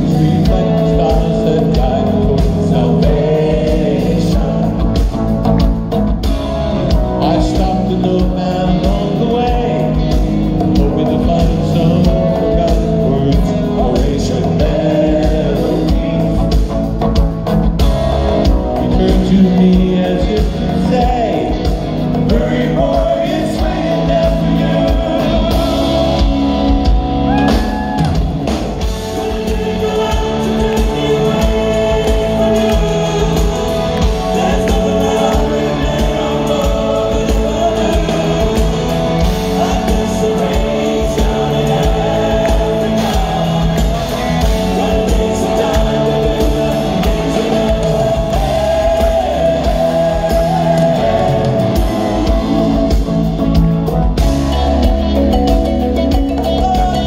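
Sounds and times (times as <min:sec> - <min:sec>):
man singing: 0:00.0 - 0:05.3, 0:06.9 - 0:17.0, 0:18.4 - 0:28.0, 0:28.8 - 0:53.6, 0:56.1 - 0:57.0
drums: 0:00.0 - 0:57.0
electric guitar: 0:00.0 - 0:57.0.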